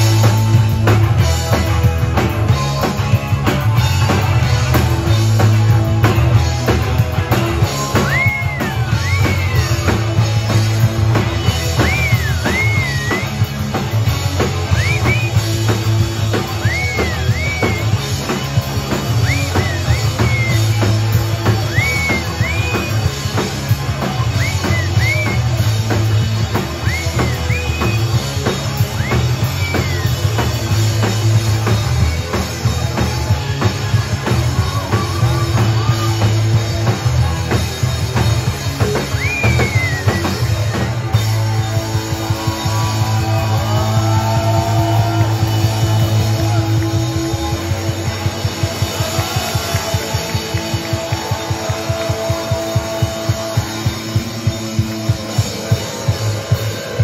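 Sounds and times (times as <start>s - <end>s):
high bending sliding guitar line: 0.0s - 57.0s
live rock band playing: 0.0s - 57.0s.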